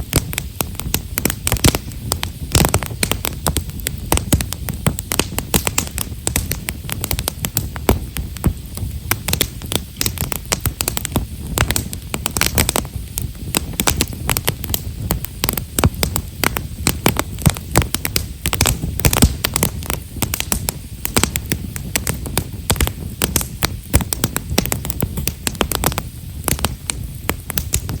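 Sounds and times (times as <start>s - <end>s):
campfire crackling and popping: 0.0s - 28.0s
low rumble of flames: 0.0s - 28.0s.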